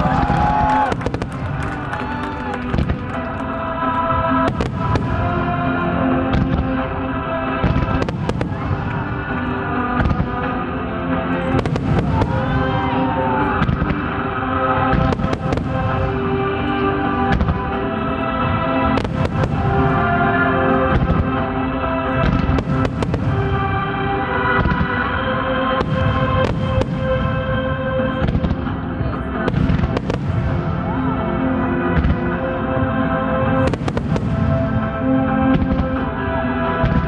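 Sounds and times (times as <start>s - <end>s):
fireworks bursting with bangs: 0.0s - 37.0s
music with long held notes: 0.0s - 37.0s.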